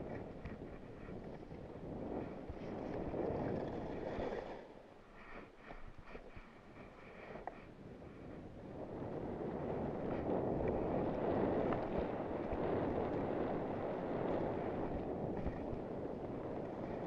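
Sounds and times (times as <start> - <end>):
wind buffeting microphone: 0.0 - 4.8, 5.6 - 17.0.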